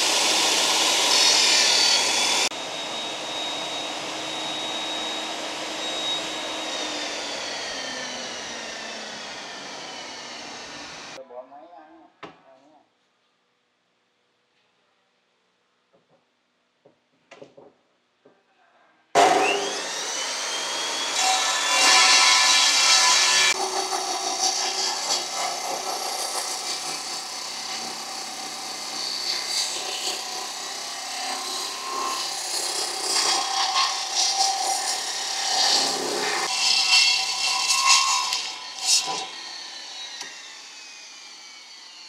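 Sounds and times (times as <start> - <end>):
circular saw cutting wood: 0.0 - 11.2, 19.2 - 42.0.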